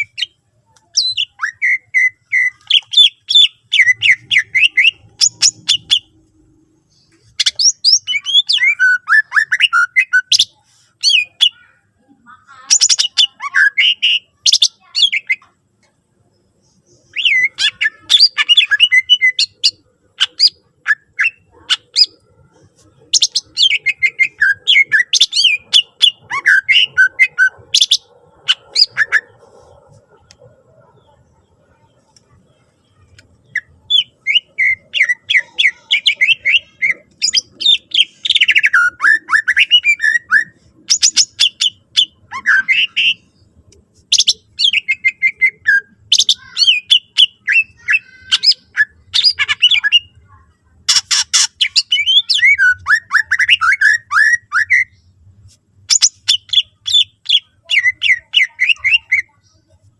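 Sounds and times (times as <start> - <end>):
bird singing chirps and whistles: 0.0 - 6.2, 7.1 - 11.6, 12.7 - 15.5, 16.8 - 22.3, 23.1 - 29.4, 32.8 - 43.4, 44.1 - 50.2, 50.9 - 55.1, 55.9 - 59.8.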